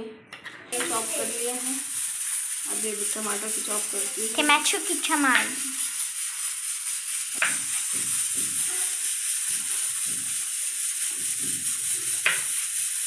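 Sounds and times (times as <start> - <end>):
steady hiss: 0.7 - 13.0.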